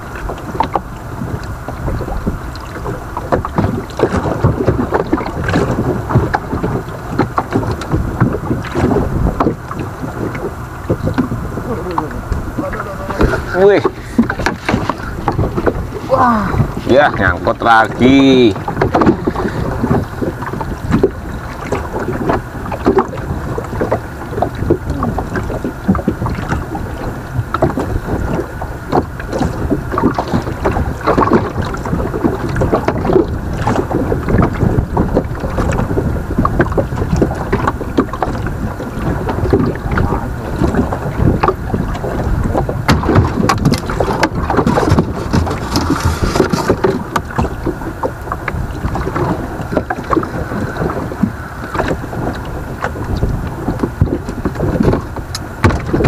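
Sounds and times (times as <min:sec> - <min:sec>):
steady water wash: 0:00.0 - 0:56.0
water knocking against boat hull: 0:00.0 - 0:56.0
wind on microphone: 0:00.0 - 0:56.0.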